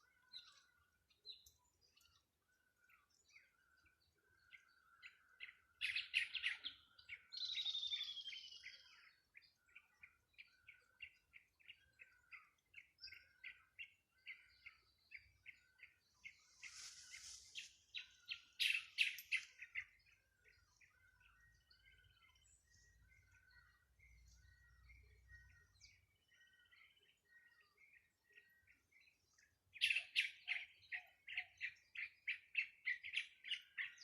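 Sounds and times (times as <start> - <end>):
songbirds chirping: 0.0 - 34.0.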